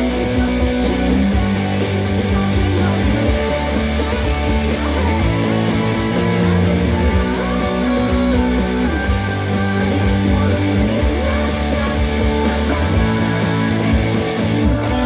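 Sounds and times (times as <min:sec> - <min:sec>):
instrumental rock music: 0:00.0 - 0:15.0.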